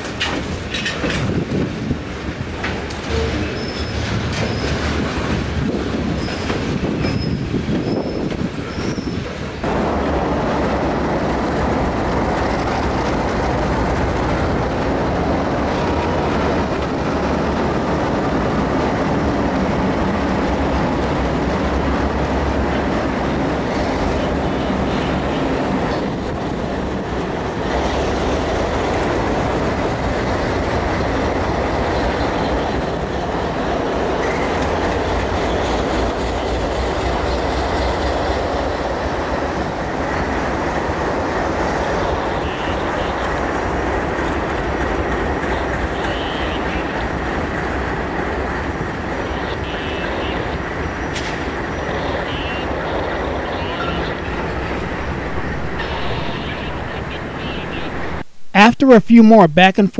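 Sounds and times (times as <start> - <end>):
diesel locomotive engine running: 0.0 - 58.3.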